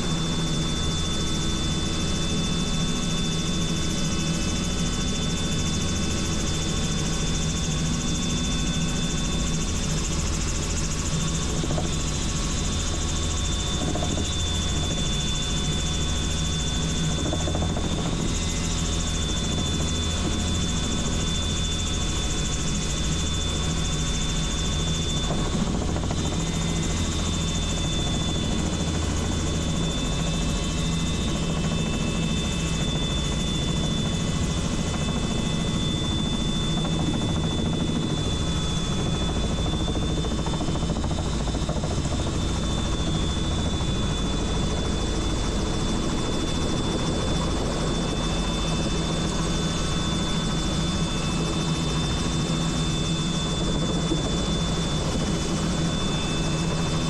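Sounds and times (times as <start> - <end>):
helicopter rotor and engine din: 0.0 - 57.0.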